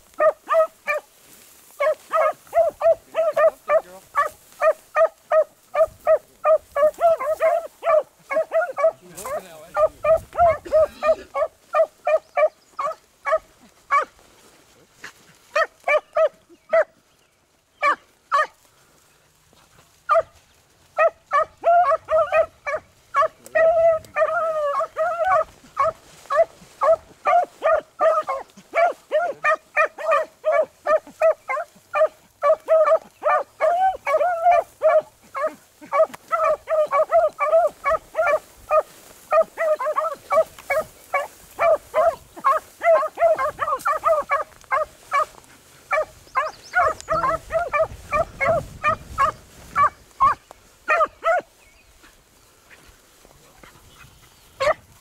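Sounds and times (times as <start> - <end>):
hounds baying: 0.0 - 17.0, 17.8 - 18.7, 19.8 - 55.0
dog barks: 0.1 - 1.1, 1.8 - 14.2, 15.0 - 17.0, 17.8 - 18.6, 20.1 - 20.4, 21.0 - 51.5, 54.6 - 54.8.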